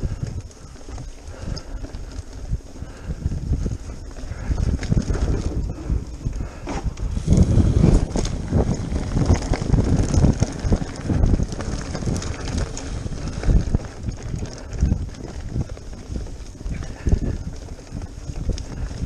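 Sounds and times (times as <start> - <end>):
mountain bike rattling on rocks: 0.0 - 19.0
tyres on loose stones: 0.0 - 19.0
wind noise on microphone: 0.0 - 19.0.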